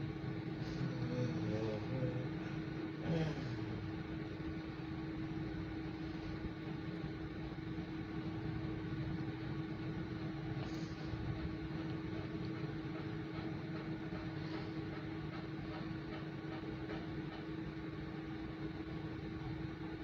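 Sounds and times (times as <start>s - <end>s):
microwave fan whirring: 0.0s - 20.0s
microwave oven humming: 0.0s - 20.0s.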